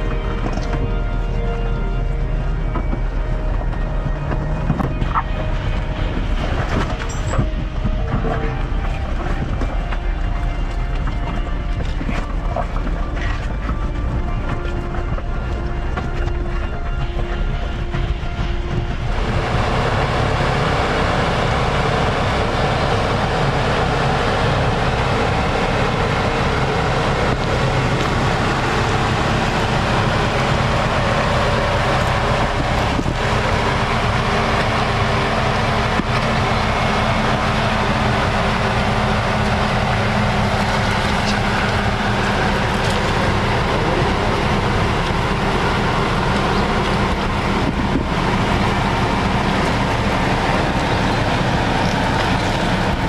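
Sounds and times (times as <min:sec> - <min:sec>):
car engine: 0:00.0 - 0:53.0
tyre noise on trail: 0:00.0 - 0:53.0.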